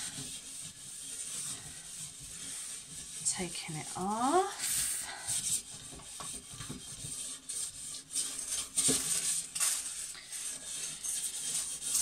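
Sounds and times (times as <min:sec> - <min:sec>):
scouring pad scraping glass: 0:00.0 - 0:12.0.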